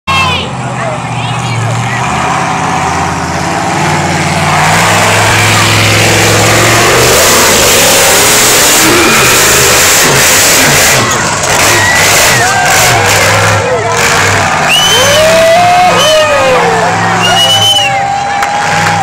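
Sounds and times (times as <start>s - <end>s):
truck engine revving hard: 0.1s - 19.0s.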